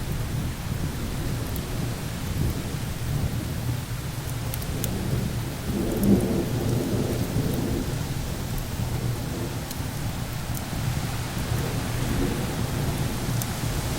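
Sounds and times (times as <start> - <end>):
faint sharp crackles: 0.0 - 13.8
low rumbling thunder: 0.0 - 13.9
rain hiss: 0.0 - 13.9
wind: 0.0 - 13.9.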